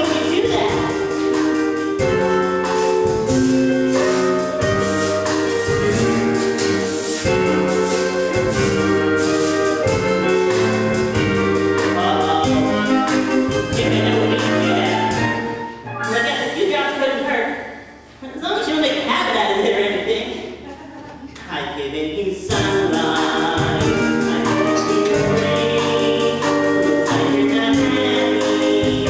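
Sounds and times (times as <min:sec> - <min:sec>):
musical theatre accompaniment: 0:00.0 - 0:29.0.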